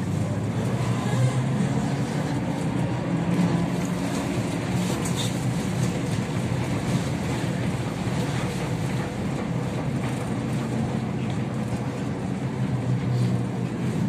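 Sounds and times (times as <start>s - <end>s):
rumble of tyres and running gear: 0.0s - 14.0s.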